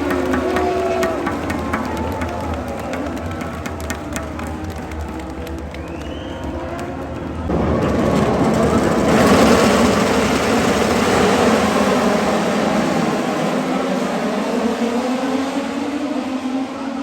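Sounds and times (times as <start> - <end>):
race motorcycles passing: 0.0 - 17.0.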